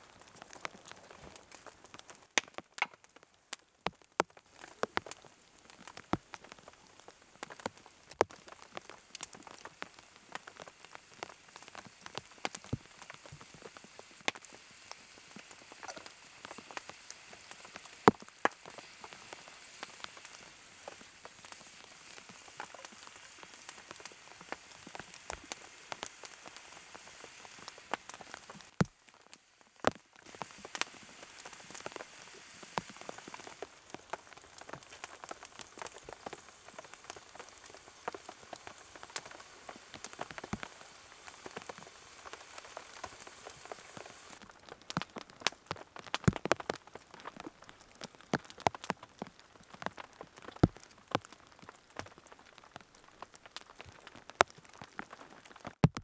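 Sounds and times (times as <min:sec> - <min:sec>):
light rain hiss: 0:00.0 - 0:55.8
raindrops tapping: 0:00.2 - 0:56.0.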